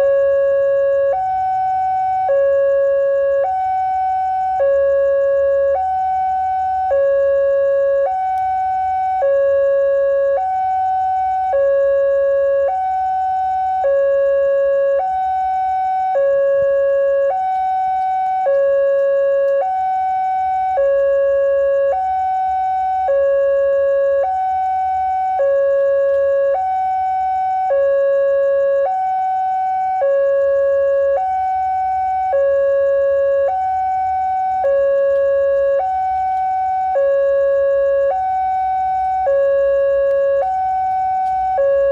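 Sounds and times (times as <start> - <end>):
two-tone railway warning alarm: 0.0 - 41.9.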